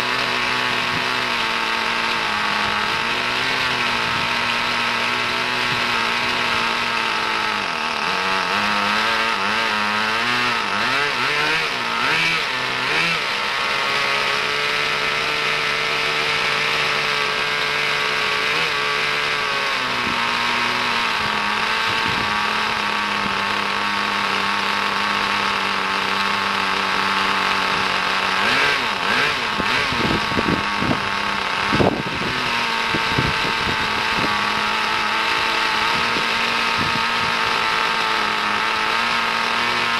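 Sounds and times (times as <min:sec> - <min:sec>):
model car nitro engine idling: 0:00.0 - 0:39.9
sharp throttle blips: 0:00.0 - 0:39.9.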